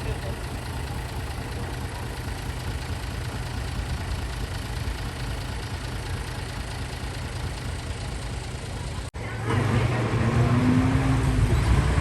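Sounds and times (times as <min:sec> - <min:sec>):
truck engine idling: 0:00.0 - 0:10.5.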